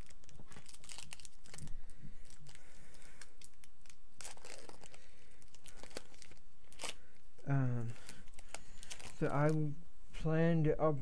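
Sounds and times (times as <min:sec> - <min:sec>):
wrapper crinkling and tearing: 0:00.0 - 0:07.2, 0:07.8 - 0:09.6.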